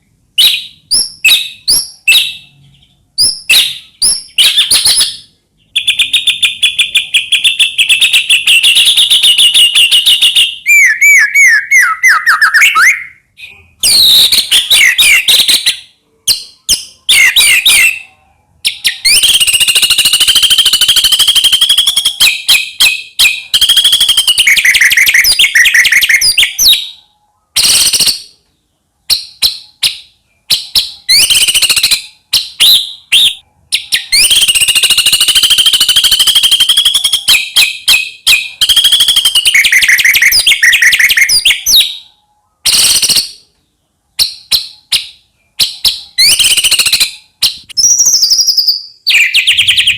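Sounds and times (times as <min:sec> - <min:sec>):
songbird singing whistles and trills: 0:00.0 - 0:49.9.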